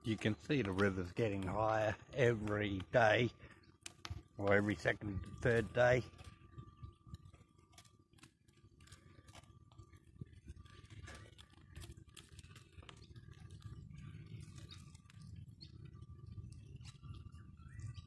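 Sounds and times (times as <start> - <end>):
faint low rumble: 0.0 - 18.0
small crackling clicks: 0.0 - 18.0.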